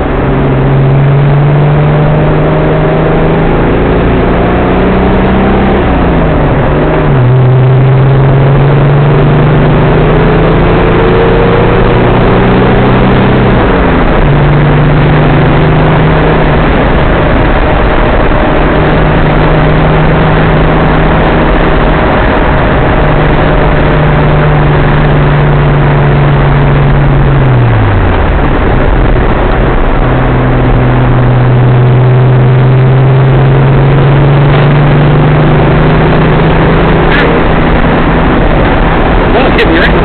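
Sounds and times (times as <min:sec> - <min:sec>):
car engine from inside cabin: 0:00.0 - 0:40.0
road and wind noise: 0:00.0 - 0:40.0.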